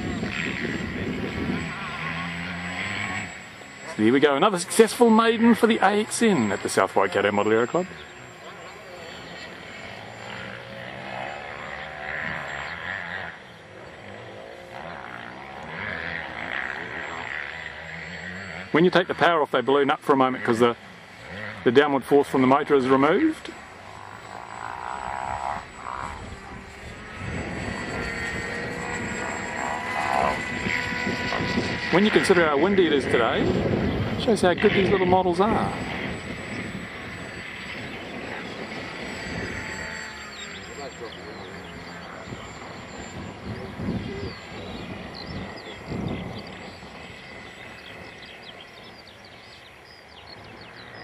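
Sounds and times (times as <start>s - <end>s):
wind rumbling on microphone: 0.0s - 19.3s, 22.0s - 51.0s
birds chirping: 0.0s - 51.0s
model plane motor whining: 0.0s - 51.0s.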